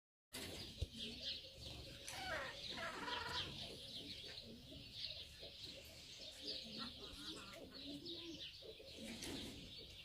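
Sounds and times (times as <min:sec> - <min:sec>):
small birds chirping: 0:00.4 - 0:10.0.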